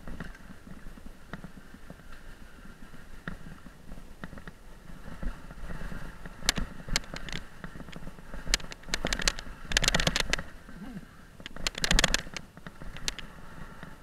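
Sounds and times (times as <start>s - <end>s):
bike rattling over bumps: 0.0s - 14.0s
bike tyres rolling over dirt: 0.0s - 14.0s
wind rumble on microphone: 0.0s - 14.0s.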